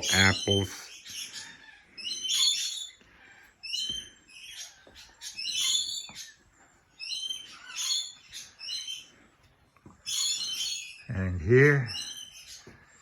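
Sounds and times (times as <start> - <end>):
parrots chirping: 0.0 - 13.0.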